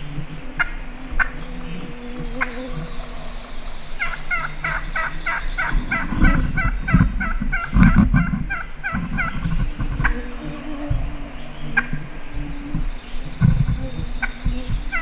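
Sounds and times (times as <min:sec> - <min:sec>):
low rumbling bumps: 0:00.0 - 0:15.0.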